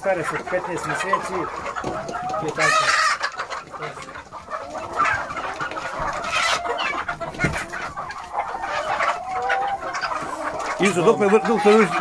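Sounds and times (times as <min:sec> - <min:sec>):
hens clucking and calling: 0:00.0 - 0:12.0.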